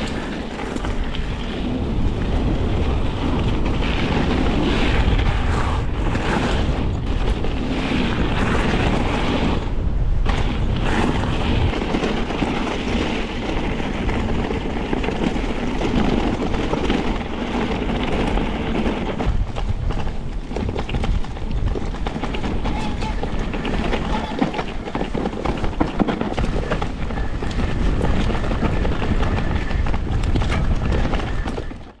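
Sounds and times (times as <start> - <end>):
bike rattling over rocks: 0.0 - 32.0
tyres rolling over dirt: 0.0 - 32.0
wind buffeting microphone: 0.0 - 32.0.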